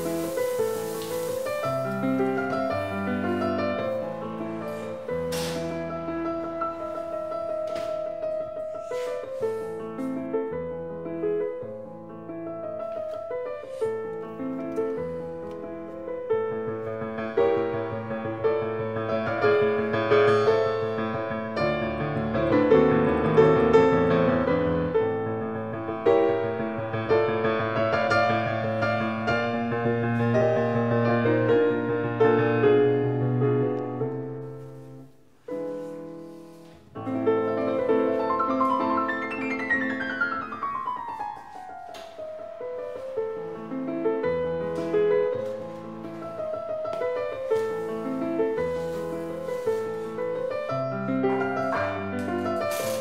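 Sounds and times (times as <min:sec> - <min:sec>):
slow piano music: 0:00.0 - 0:53.0.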